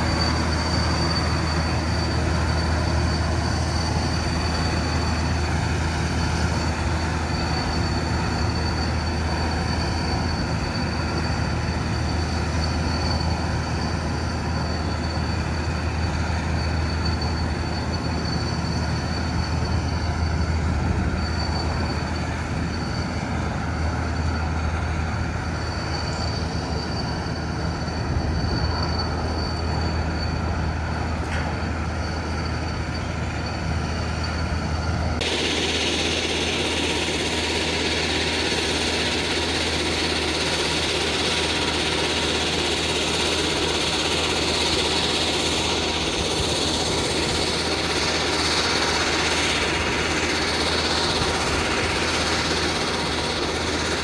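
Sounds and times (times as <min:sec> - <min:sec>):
aircraft turbine engine running: 0:00.0 - 0:54.0.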